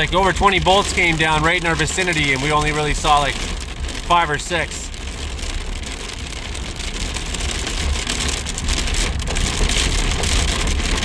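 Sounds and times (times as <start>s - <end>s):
heavy rain on a vehicle: 0.0s - 11.0s.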